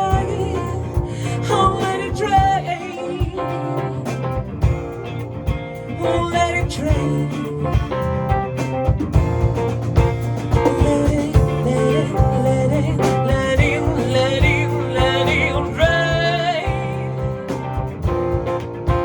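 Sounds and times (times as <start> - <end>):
bending lead guitar notes: 0.0 - 19.0
country blues rock band: 0.0 - 19.0.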